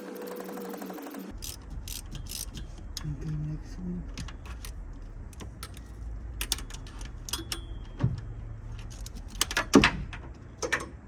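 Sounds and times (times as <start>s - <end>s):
metal tools and engine parts clinking: 0.0s - 11.0s.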